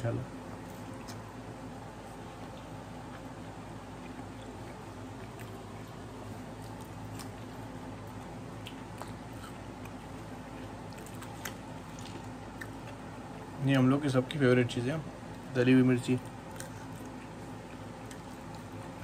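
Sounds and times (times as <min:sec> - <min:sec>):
background hum: 0:00.0 - 0:19.0
person eating: 0:00.6 - 0:13.6, 0:16.1 - 0:19.0.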